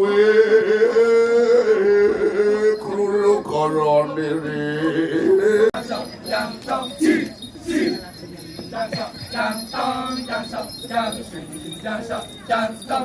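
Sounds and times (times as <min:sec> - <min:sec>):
chorus of voices chanting: 0:00.0 - 0:13.0
small bells jingling: 0:02.4 - 0:13.0.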